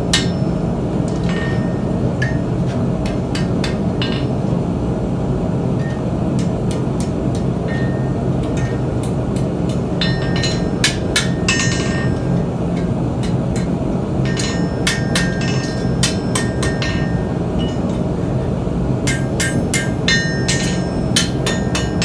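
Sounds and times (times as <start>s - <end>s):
hammer striking steel on anvil: 0.0s - 4.8s, 5.7s - 22.0s.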